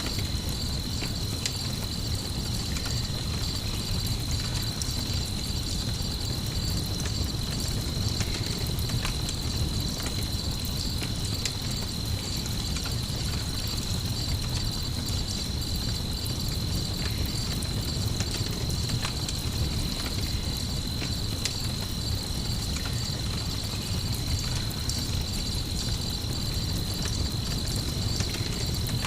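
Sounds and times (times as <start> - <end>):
campfire crackling: 0.0 - 29.0
crickets chirping: 0.0 - 29.0.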